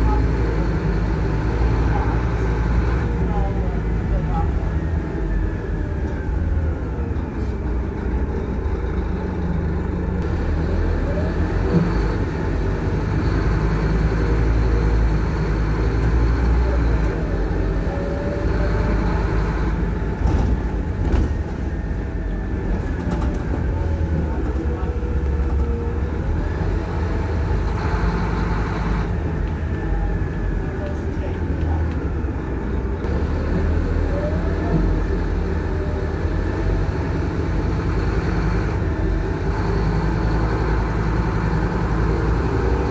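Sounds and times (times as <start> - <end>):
bus engine rumble with whine: 0.0 - 42.9.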